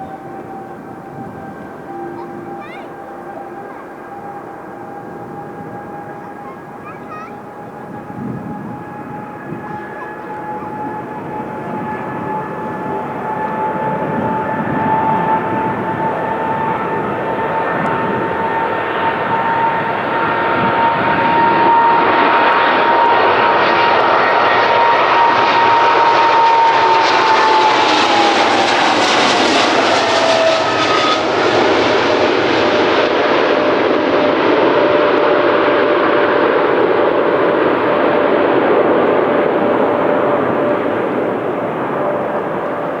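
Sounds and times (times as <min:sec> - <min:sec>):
jet engine whine: 0:00.0 - 0:43.0
jet engines rushing: 0:00.0 - 0:43.0.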